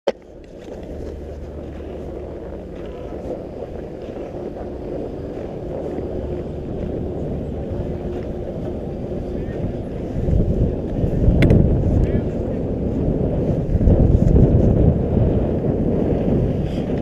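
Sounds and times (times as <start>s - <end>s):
wind buffeting microphone: 0.1s - 17.0s.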